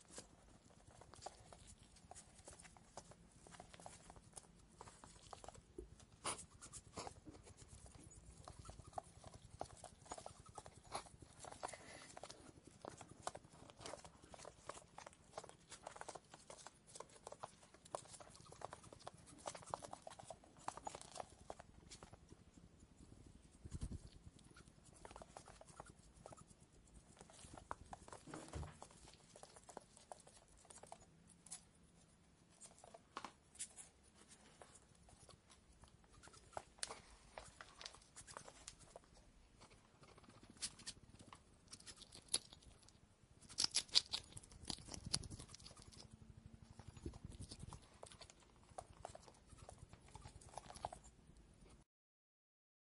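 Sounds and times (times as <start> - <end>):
hedgehog clicking: 0.1 - 31.7, 34.9 - 51.2.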